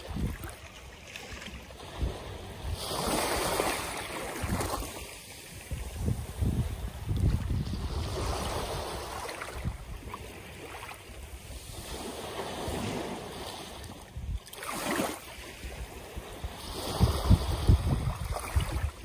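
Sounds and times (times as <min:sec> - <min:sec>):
waves lapping on sand: 0:00.0 - 0:19.0
wind rumble on microphone: 0:00.0 - 0:19.0.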